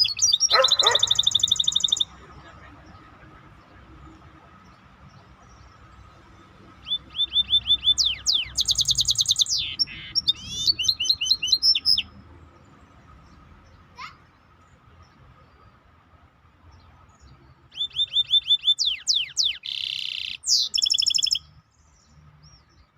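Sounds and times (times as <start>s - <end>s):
songbird singing: 0.0s - 22.9s.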